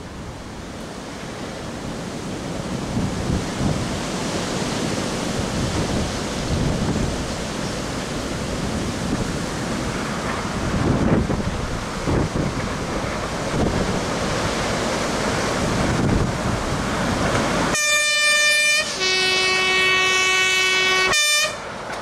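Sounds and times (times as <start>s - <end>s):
wind buffeting microphone: 0.0s - 17.8s
steam locomotive approaching: 0.0s - 22.0s.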